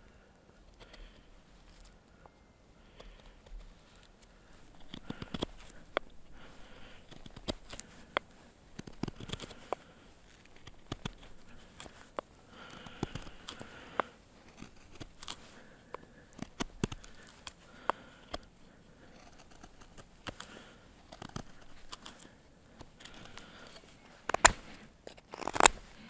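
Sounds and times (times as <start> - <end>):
small clicks and crinkling: 0.1 - 26.0.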